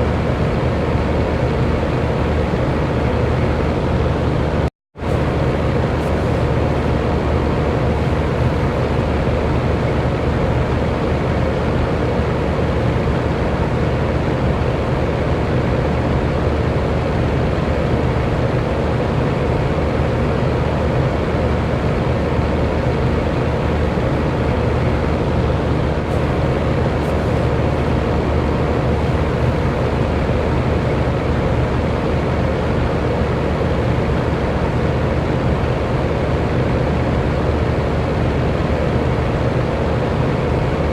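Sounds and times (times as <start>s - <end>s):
electric fan running: 0.0s - 40.9s.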